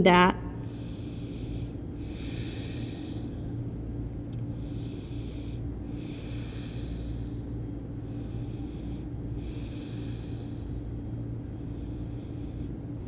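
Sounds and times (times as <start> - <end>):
steady low hum: 0.0 - 13.0
woman breathing: 0.5 - 13.0.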